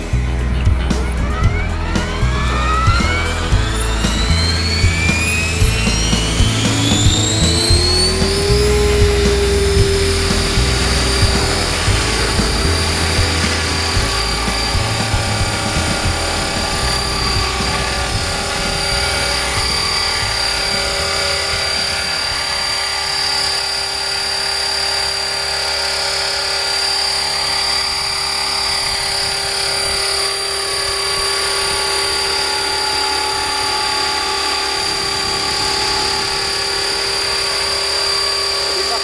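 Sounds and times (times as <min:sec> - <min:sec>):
rc helicopter whine: 0:00.0 - 0:39.0.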